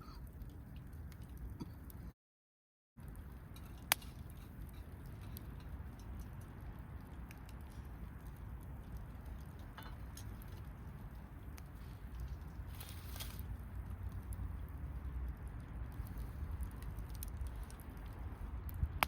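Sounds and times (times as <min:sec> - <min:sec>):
campfire crackling: 0:00.0 - 0:02.1, 0:03.0 - 0:19.0.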